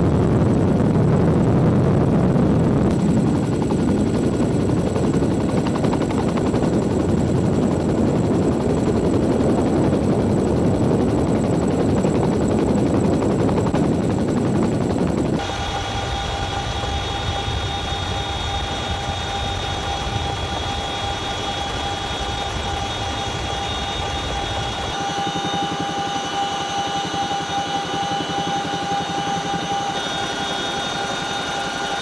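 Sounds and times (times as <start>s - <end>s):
helicopter rotor beat: 0.0s - 32.0s
turbines rushing: 0.0s - 32.0s.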